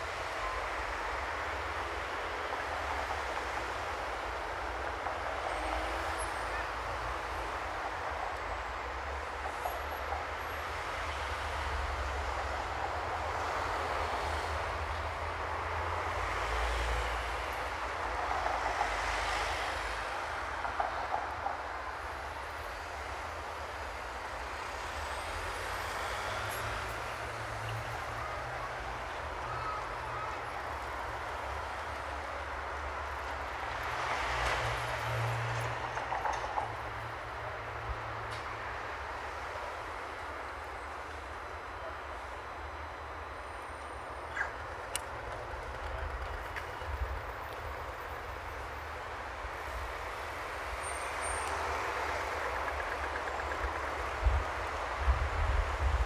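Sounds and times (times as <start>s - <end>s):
city traffic noise: 0.0s - 56.0s.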